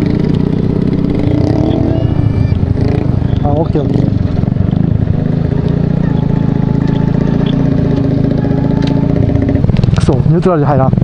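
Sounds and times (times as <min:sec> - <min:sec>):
small motorbike engine at low revs: 0:00.0 - 0:11.0.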